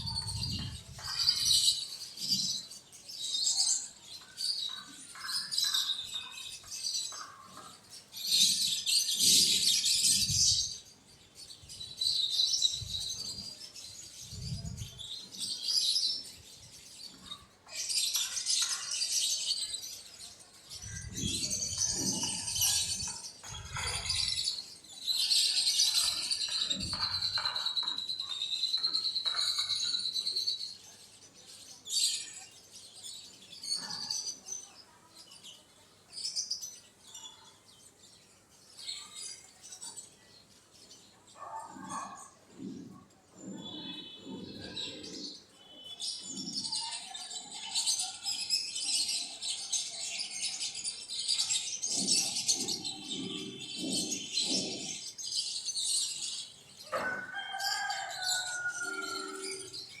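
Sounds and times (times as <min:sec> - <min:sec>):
birds chirping: 0:00.0 - 1:00.0.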